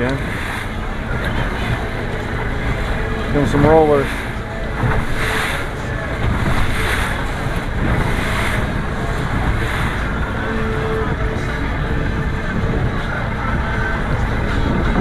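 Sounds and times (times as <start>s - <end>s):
boat motor running: 0.0s - 15.0s
wind rumbling on microphone: 0.0s - 15.0s.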